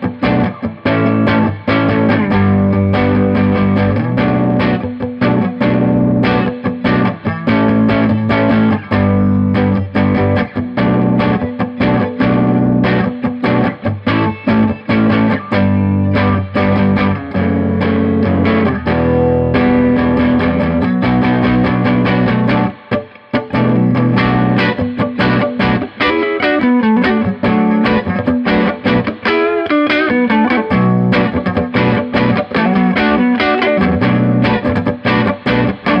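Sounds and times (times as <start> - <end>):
electric guitar through amp: 0.0 - 36.0.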